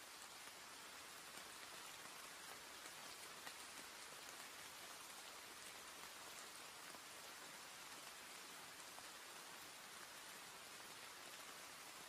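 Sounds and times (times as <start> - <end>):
rainfall hiss: 0.0 - 12.0.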